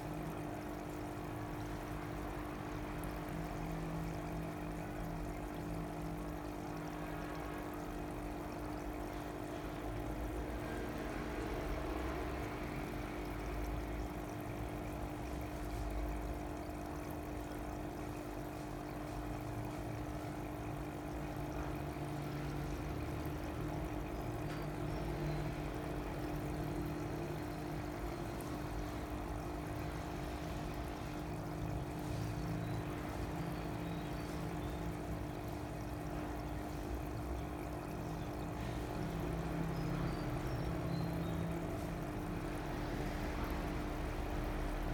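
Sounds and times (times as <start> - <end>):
constant hum: 0.0 - 44.9
water pouring and trickling: 0.0 - 44.9.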